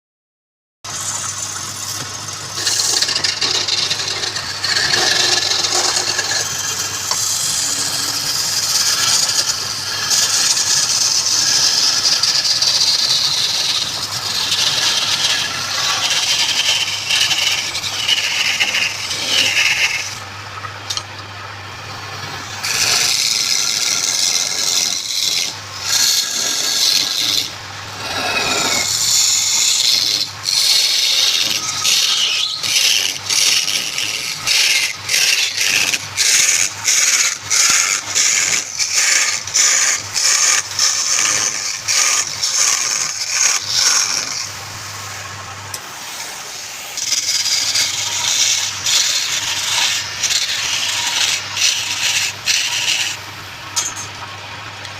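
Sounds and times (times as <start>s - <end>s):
turning tool scraping spinning wood: 0.9s - 44.8s, 45.7s - 54.2s
wood lathe humming: 0.9s - 54.9s.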